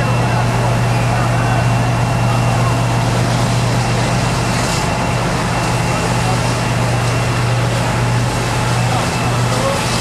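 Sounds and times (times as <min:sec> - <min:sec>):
fire truck engine droning: 0:00.0 - 0:10.0.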